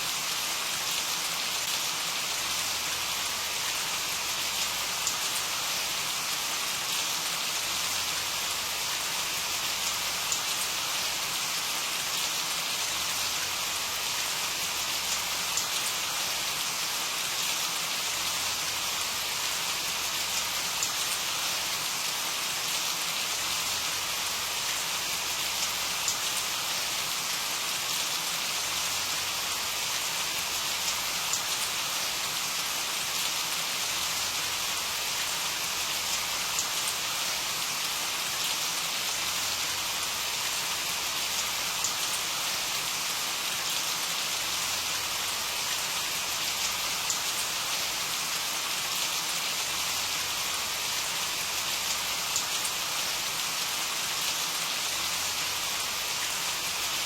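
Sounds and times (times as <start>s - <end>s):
rain falling: 0.0s - 57.0s
raindrops ticking on a surface: 0.5s - 57.0s.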